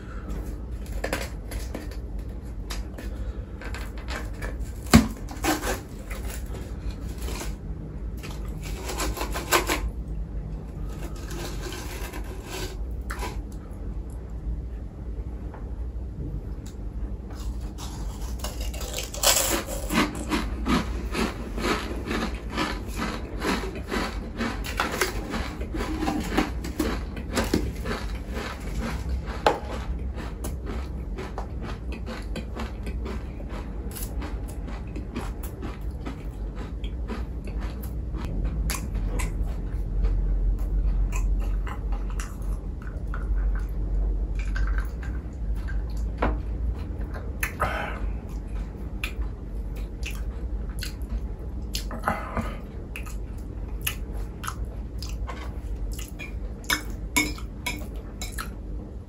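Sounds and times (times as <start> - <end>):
low steady hum: 0.0 - 59.0
person biting and chewing food: 0.2 - 13.7, 16.6 - 58.6.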